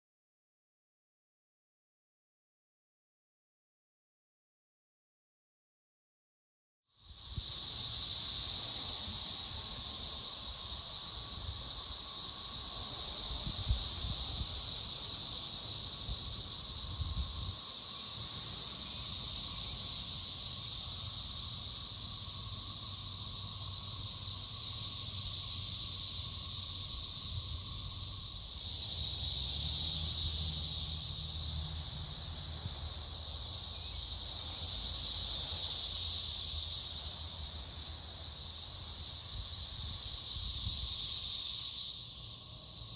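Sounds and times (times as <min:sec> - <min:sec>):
cicadas droning: 0:06.9 - 0:42.9.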